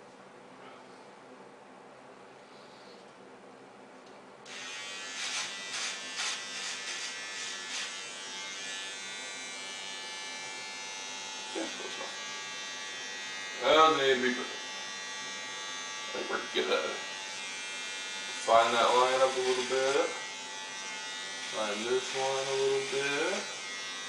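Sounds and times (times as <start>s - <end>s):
electric beard trimmer buzzing: 4.5s - 24.0s
trimmer cutting beard hair: 4.5s - 24.0s.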